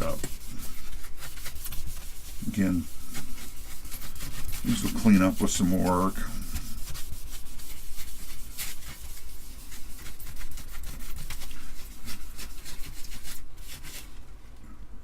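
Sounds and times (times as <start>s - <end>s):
scrubbing strokes on circuit board: 0.0s - 14.1s.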